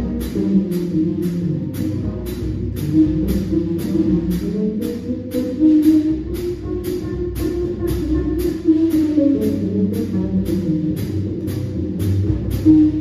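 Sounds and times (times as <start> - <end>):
piano: 0.0 - 13.0
ride cymbal pattern: 0.0 - 13.0
upright double bass: 0.0 - 13.0.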